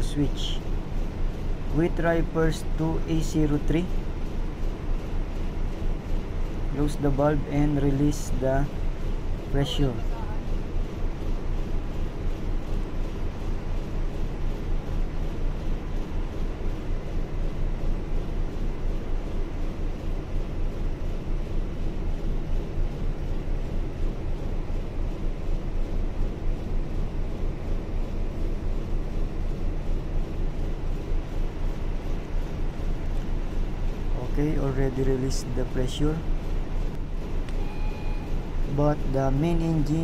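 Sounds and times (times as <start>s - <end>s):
diesel engine low drone: 0.0s - 40.0s.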